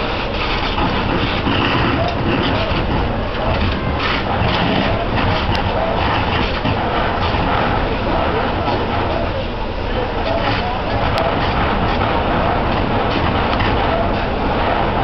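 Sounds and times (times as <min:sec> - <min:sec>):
faint voices: 0:00.0 - 0:15.0
fire engine rumbling: 0:00.0 - 0:15.0.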